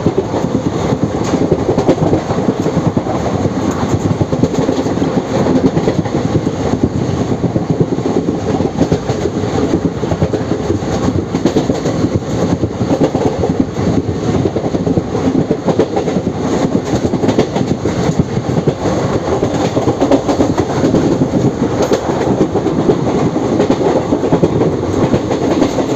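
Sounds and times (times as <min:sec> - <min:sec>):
train rolling rumble: 0:00.0 - 0:25.9
wheels clicking over rail joints: 0:00.0 - 0:25.9.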